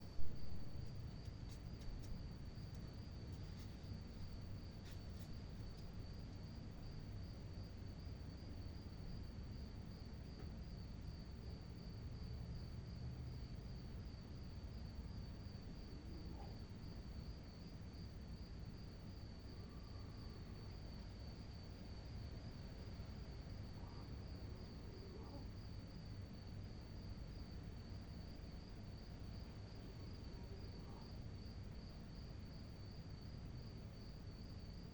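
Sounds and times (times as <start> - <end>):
cricket chirping: 0.0 - 34.9
low background rumble: 0.0 - 34.9.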